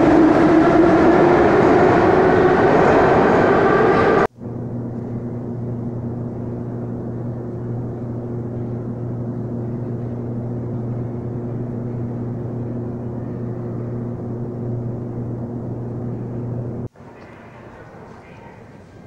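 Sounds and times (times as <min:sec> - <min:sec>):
held low tones: 0:00.0 - 0:17.0
station hall hum: 0:00.0 - 0:19.0.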